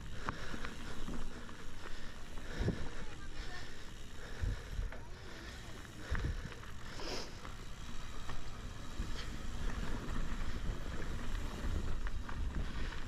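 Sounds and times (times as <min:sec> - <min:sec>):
bike rattling over bumps: 0:00.0 - 0:13.0.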